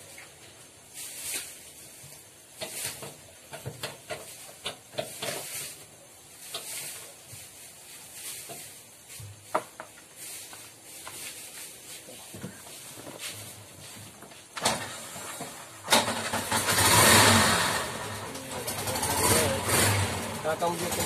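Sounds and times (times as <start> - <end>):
hissy rustles: 0.0 - 21.0.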